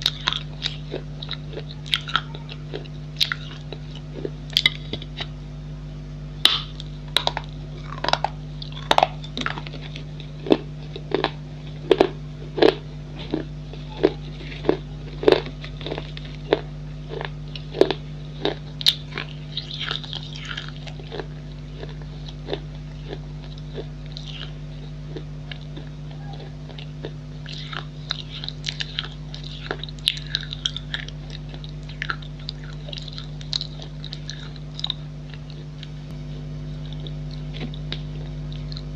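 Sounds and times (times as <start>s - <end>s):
crisp chewing crunches: 0.0s - 5.4s, 6.5s - 38.9s
steady low hum: 0.0s - 38.9s.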